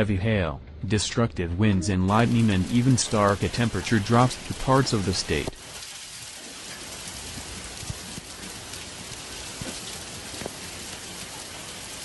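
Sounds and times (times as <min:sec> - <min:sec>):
hail pelting stone paving: 0:02.1 - 0:12.0.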